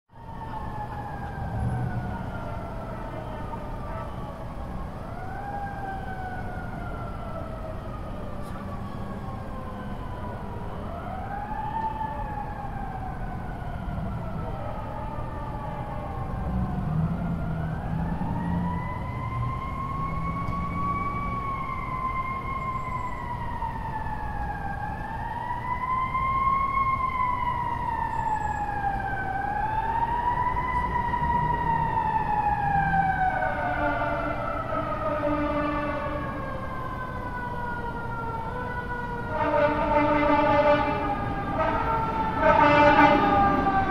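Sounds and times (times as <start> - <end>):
fire engine siren wailing: 0.1 - 43.9
second siren wailing: 0.1 - 43.9.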